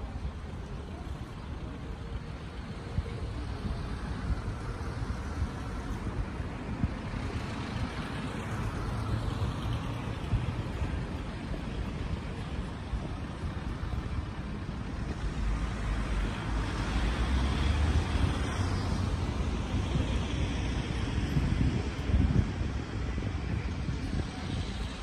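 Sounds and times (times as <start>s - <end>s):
distant traffic: 0.0s - 25.0s
wind buffeting microphone: 0.0s - 25.0s.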